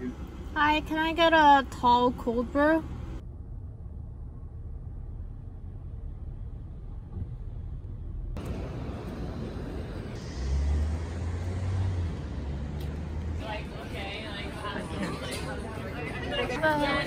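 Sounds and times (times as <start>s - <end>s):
city traffic rumble: 0.0s - 17.0s
vehicle engine hum: 0.0s - 17.0s.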